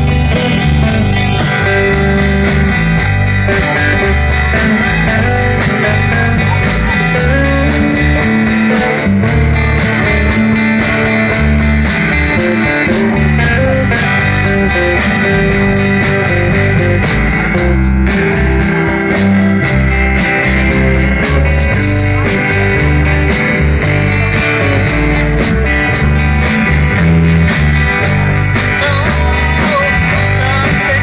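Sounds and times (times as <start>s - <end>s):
acoustic rhythm guitar: 0.0s - 31.0s
bass guitar: 0.0s - 31.0s
drum kit beat: 0.0s - 31.0s
electric guitars: 0.0s - 31.0s.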